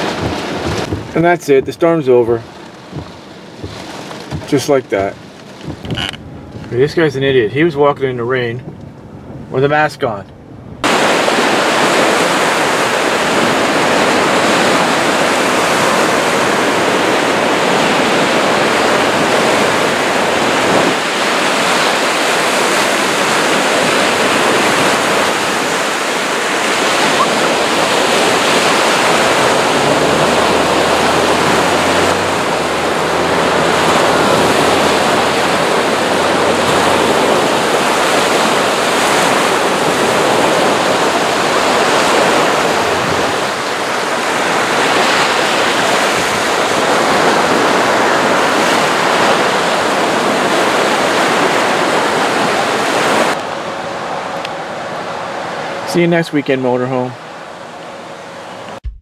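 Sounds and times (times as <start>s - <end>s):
waves breaking on beach: 0.0s - 5.9s, 10.8s - 58.7s
wind: 0.0s - 58.9s.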